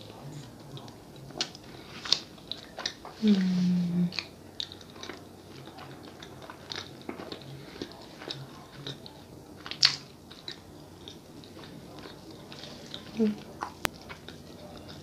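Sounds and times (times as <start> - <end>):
close chewing with mouth clicks: 0.0 - 15.0.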